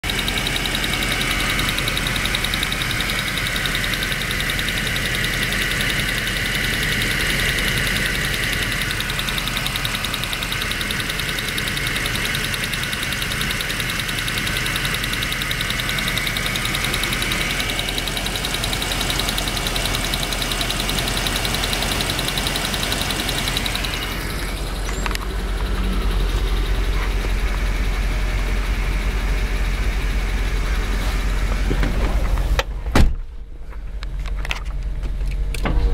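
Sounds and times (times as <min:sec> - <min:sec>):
fast engine clicking: 0:00.0 - 0:32.8
car engine running: 0:00.0 - 0:35.9.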